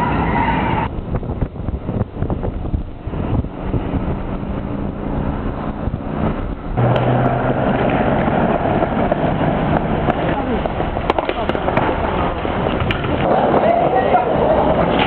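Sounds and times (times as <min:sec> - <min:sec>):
city traffic: 0:00.0 - 0:15.0
skateboard wheels rolling on paving: 0:00.0 - 0:15.0.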